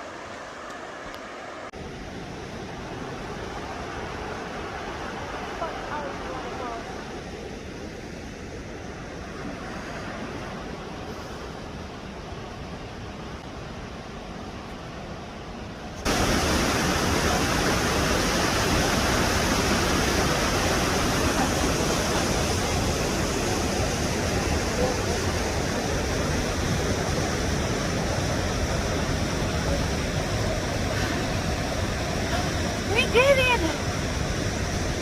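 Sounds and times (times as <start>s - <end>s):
soft water or wind noise: 0.0s - 35.0s
waterfall roaring: 0.0s - 35.0s.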